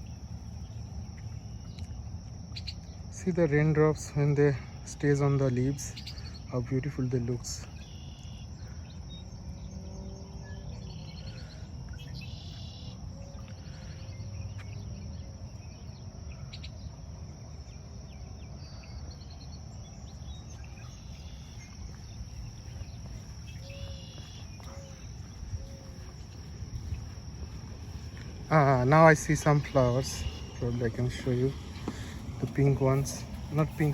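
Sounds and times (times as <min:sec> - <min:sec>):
high-pitched insect trill: 0:00.0 - 0:33.9
low steady rumble: 0:00.0 - 0:33.9.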